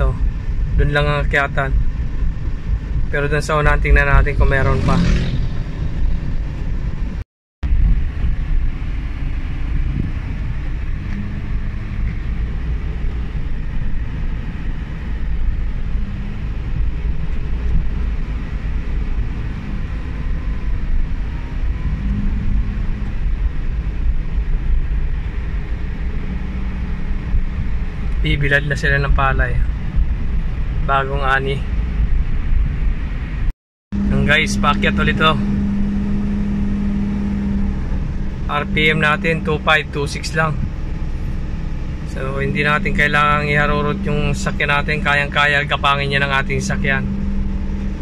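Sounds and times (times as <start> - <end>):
car engine rumble in cabin: 0.0 - 48.0
road noise: 0.0 - 48.0.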